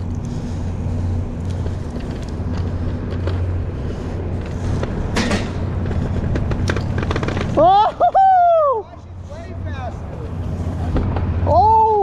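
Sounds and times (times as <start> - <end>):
wheels rattling over pavement: 0.0 - 11.8
electric scooter motor hum: 0.0 - 12.0.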